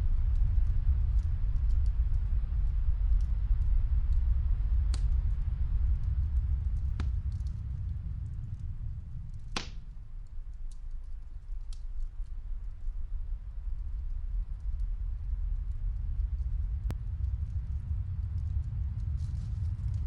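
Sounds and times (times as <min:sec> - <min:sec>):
muffled fireplace crackling: 0:00.0 - 0:20.0
snowstorm wind rumble: 0:00.0 - 0:20.0
fire pops: 0:00.3 - 0:20.0.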